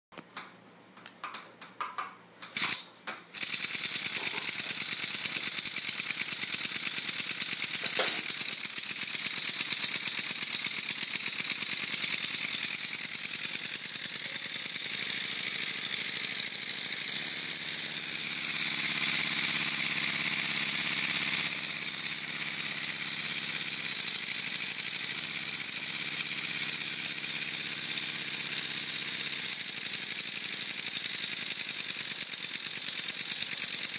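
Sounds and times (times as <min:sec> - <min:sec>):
pneumatic engine rattling with hiss: 0:02.5 - 0:33.9.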